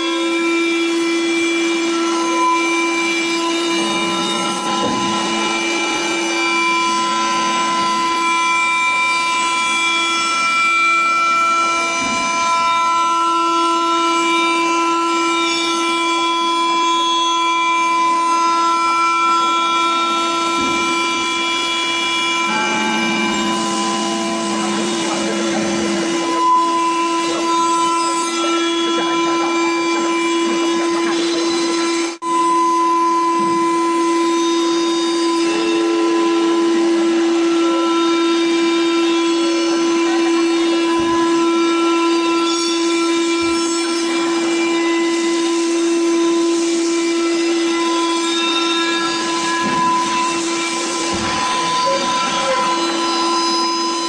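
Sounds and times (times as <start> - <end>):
machine spindle whine: 0.0 - 54.0
router bit cutting wood: 0.0 - 54.0.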